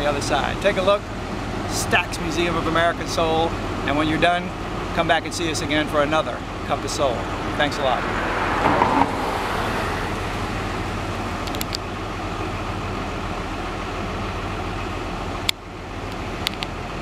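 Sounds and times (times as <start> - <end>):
street traffic: 0.0 - 17.0
vehicle engine idling: 0.0 - 17.0.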